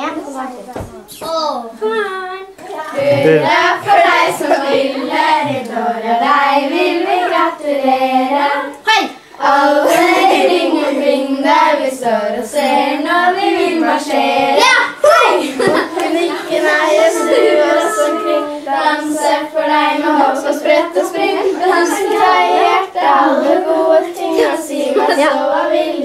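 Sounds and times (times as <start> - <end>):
children singing together: 2.6 - 26.0.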